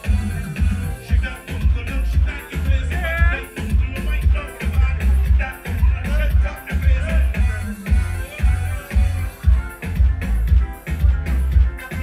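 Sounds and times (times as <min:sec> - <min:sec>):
heavy bass beat: 0:00.0 - 0:12.0
live one-man band music: 0:00.0 - 0:12.0.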